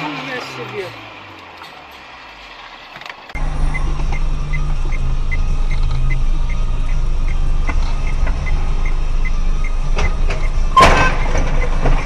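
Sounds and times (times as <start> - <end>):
car cabin road and engine noise: 0.0 - 12.0.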